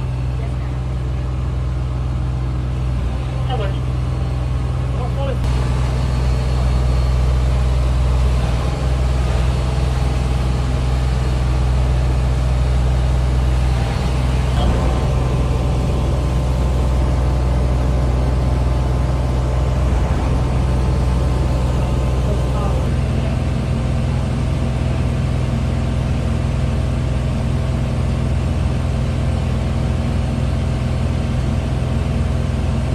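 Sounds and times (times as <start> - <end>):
heavy vehicle engine running: 0.0 - 32.9.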